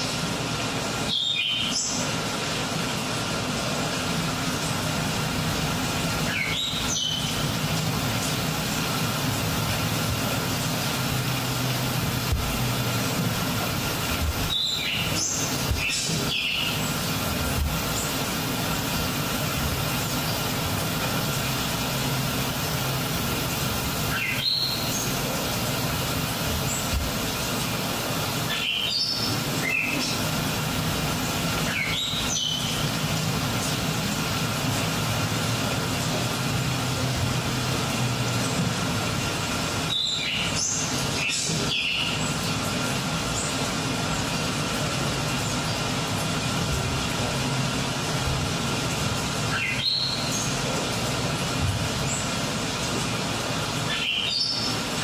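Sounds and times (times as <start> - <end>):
rushing rumble with hiss: 0.0 - 55.0.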